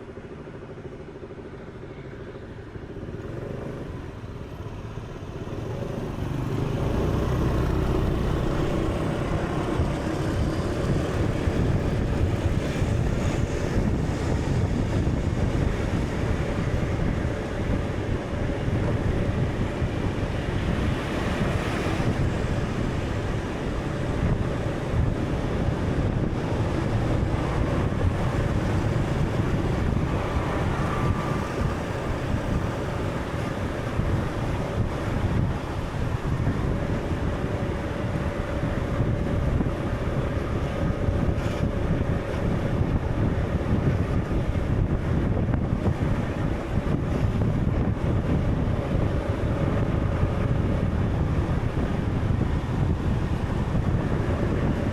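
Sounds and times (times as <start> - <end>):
wind: 0.0 - 54.9
stormy sea: 4.7 - 54.9.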